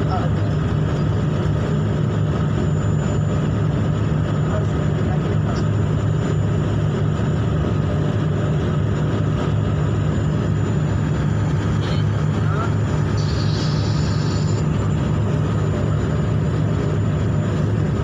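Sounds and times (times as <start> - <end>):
ship engine droning: 0.0 - 18.0.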